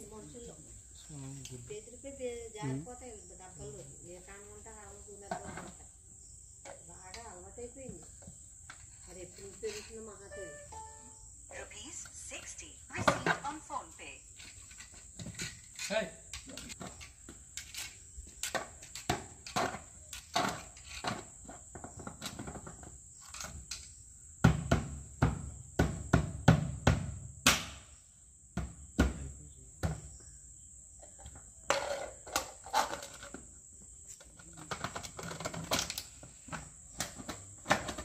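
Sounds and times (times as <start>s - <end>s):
crickets chirring: 0.0s - 38.0s.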